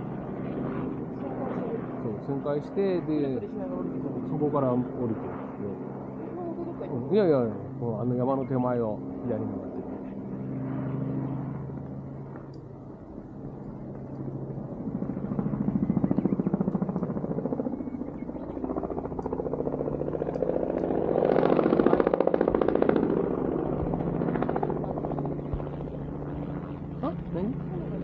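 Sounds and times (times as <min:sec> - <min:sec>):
helicopter rotor chop: 0:00.0 - 0:28.0.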